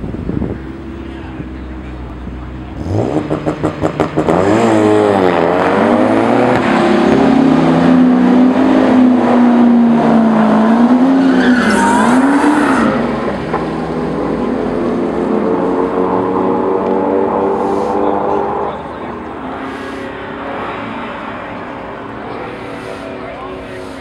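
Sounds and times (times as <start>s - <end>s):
car engine revving: 0.6s - 24.0s.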